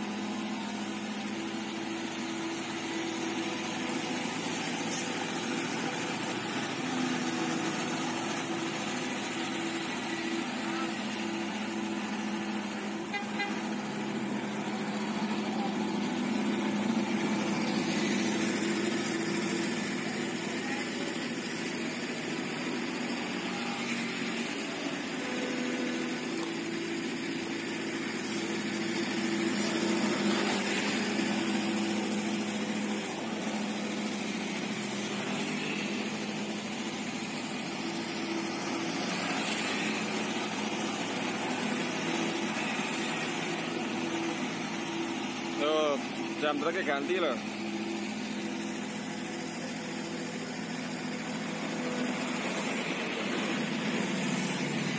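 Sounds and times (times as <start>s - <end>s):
diesel engines droning: 0.0s - 54.9s.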